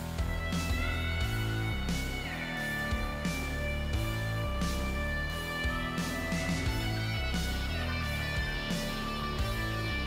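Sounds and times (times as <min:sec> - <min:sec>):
guitar-led music with drum beat: 0:00.0 - 0:10.0.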